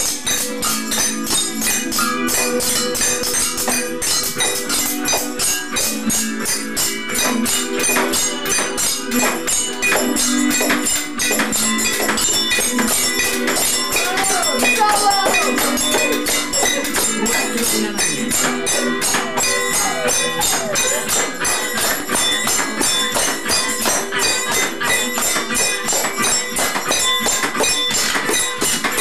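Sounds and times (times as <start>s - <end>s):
kitchen utensils as percussion: 0.0s - 29.0s.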